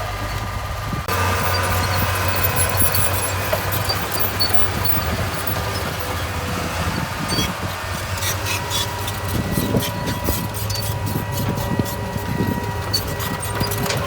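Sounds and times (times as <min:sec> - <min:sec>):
heavy machine engine running: 0:00.0 - 0:14.0
clanks and crunches of gravel: 0:01.1 - 0:14.0.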